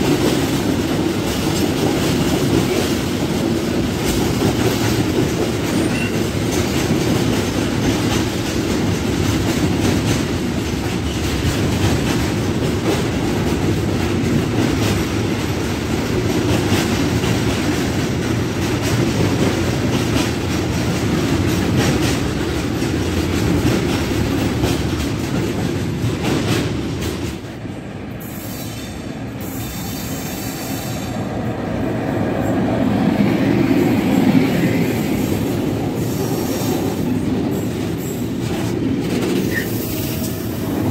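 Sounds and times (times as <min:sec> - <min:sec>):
train wheels clattering over rails: 0:00.0 - 0:40.9.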